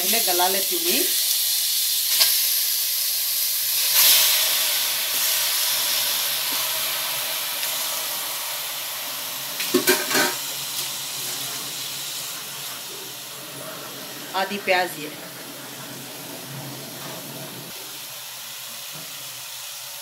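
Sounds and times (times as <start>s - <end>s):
chicken sizzling in pot: 0.0s - 20.0s.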